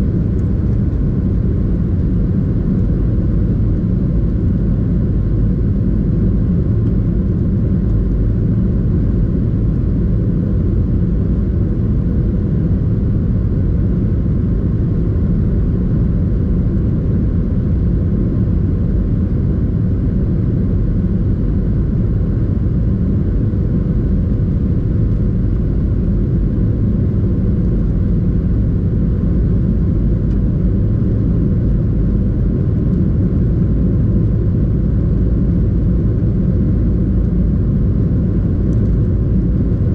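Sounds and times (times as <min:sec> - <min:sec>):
aircraft cabin engine rumble: 0:00.0 - 0:39.9
faint steady hum: 0:00.0 - 0:39.9.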